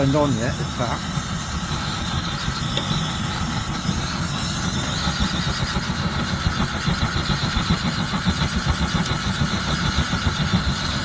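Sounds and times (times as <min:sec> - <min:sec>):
stove flame rumbling: 0:00.0 - 0:11.0.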